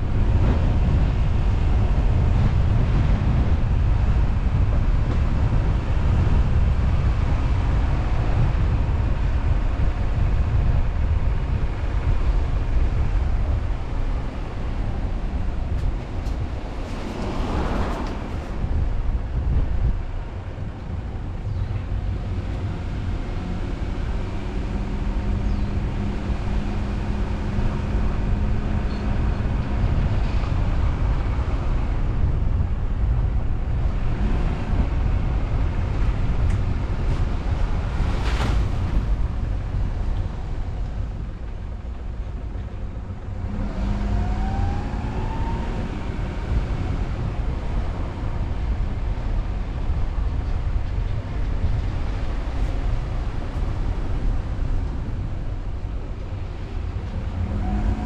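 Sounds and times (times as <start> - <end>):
road rumble: 0.0 - 58.0
wind noise: 0.0 - 58.0.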